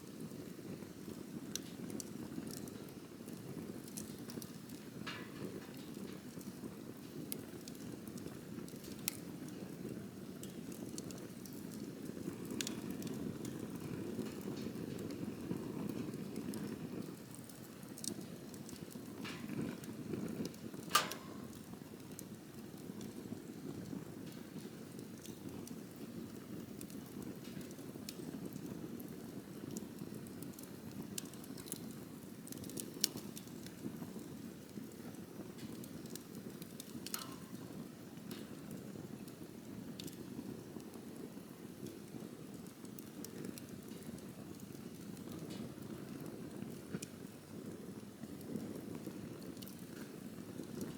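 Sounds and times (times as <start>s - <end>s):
campfire burning with crackles: 0.0s - 50.9s.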